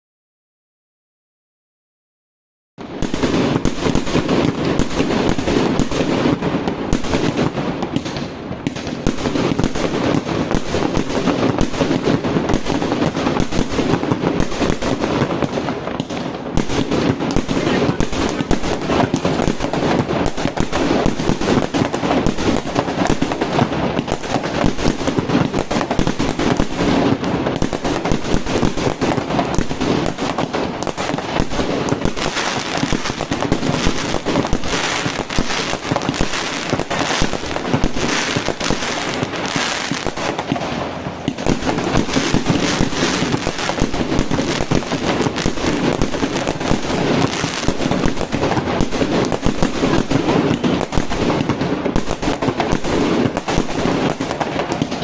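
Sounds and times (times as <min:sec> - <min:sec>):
fireworks crackling bangs: 0:02.8 - 0:55.0.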